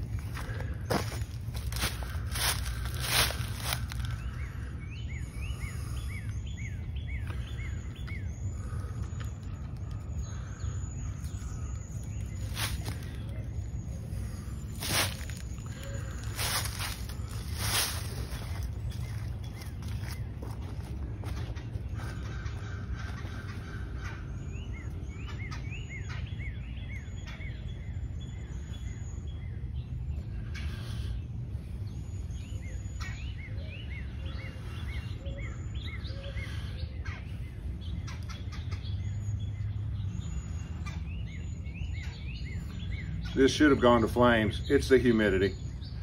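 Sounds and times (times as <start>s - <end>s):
steady low rumble: 0.0s - 43.4s
songbirds chirping: 0.0s - 46.0s.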